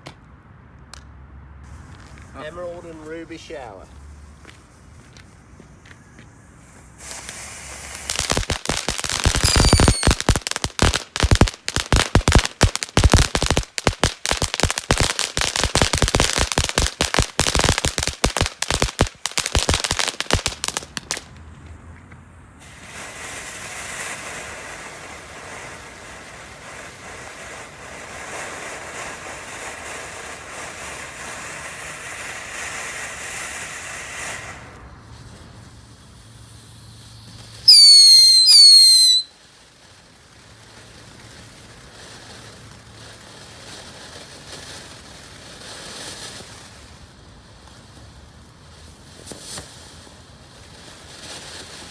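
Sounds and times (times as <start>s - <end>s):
firework hissing spray: 1.6s - 21.4s, 22.6s - 51.9s
firework fountain crackling: 1.6s - 21.8s, 22.6s - 51.9s.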